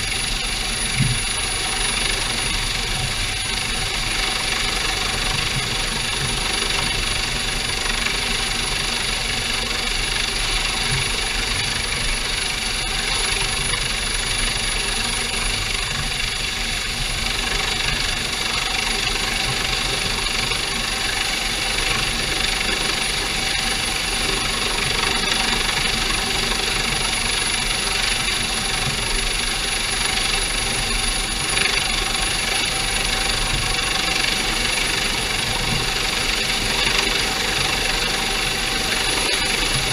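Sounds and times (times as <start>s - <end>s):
boat engine: 0.0s - 39.9s
helicopter hovering overhead: 0.0s - 39.9s
high whine: 0.0s - 39.9s.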